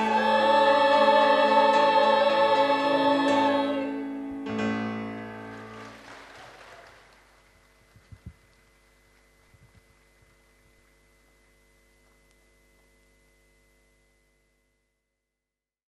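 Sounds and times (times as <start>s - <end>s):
faint electrical hum: 0.0s - 15.4s.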